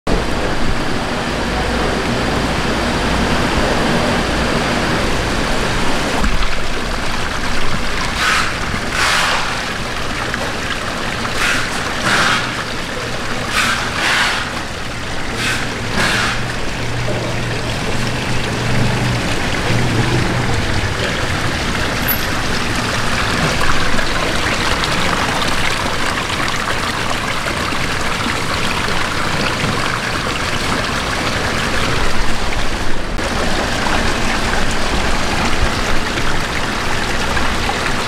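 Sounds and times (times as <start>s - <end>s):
fish tanks noise: 0.1s - 38.0s
water trickling and bubbling: 0.1s - 38.0s
hissing rushes of water: 0.2s - 38.0s.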